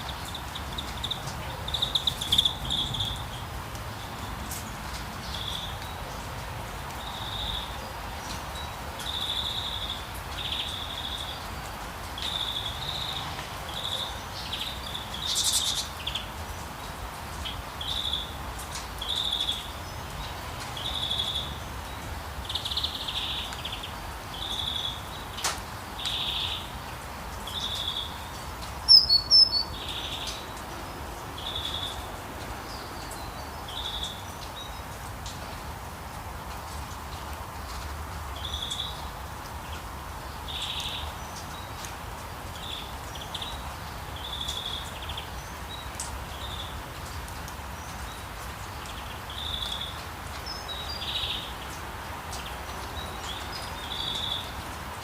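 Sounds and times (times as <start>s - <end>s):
songbirds calling: 0.0s - 35.7s, 36.5s - 55.0s
rain hissing: 0.0s - 55.0s.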